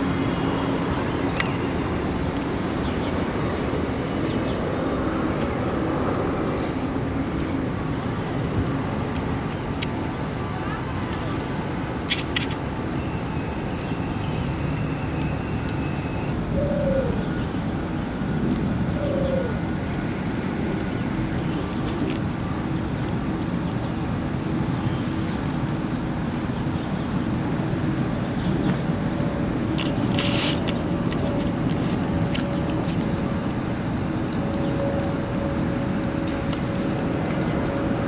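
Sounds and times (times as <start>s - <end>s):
city traffic: 0.0s - 38.0s.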